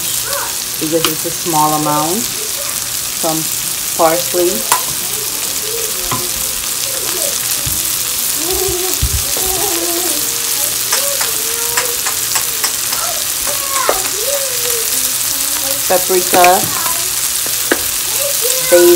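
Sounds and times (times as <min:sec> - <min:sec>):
food sizzling in hot oil: 0:00.0 - 0:18.9.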